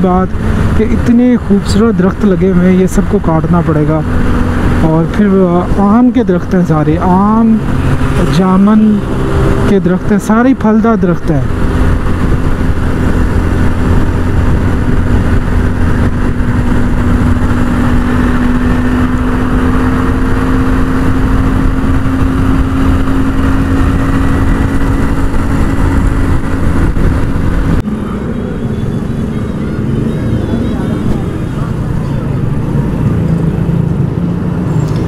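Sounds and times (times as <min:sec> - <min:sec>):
motorcycle engine running: 0:00.0 - 0:35.0
wind rush on microphone: 0:00.0 - 0:35.0.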